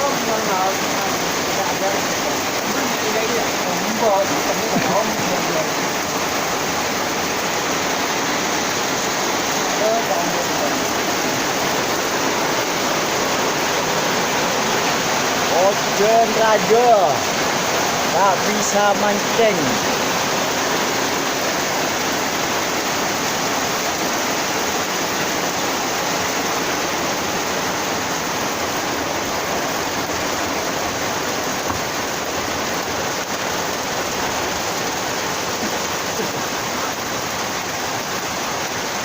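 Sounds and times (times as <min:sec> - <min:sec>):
heavy rain and wind rushing: 0:00.0 - 0:39.0.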